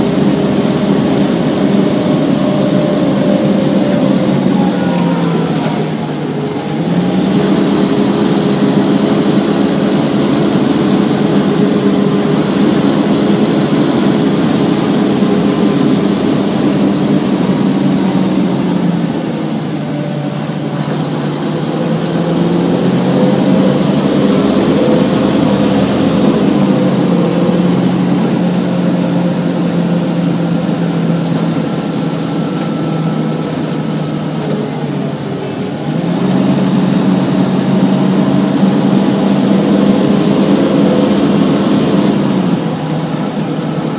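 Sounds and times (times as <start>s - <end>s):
bus diesel engine running: 0.0s - 43.9s
high whine: 0.0s - 43.9s.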